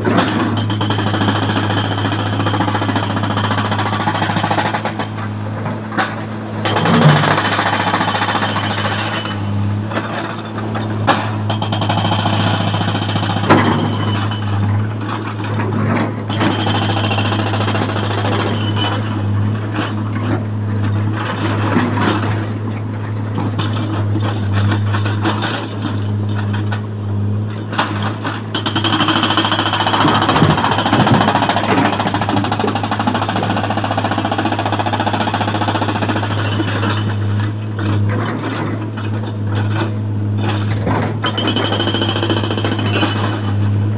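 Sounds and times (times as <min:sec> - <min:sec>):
hydraulic breaker hammering stone: 0:00.0 - 0:20.4, 0:27.6 - 0:43.9
diesel engines running: 0:00.0 - 0:43.9.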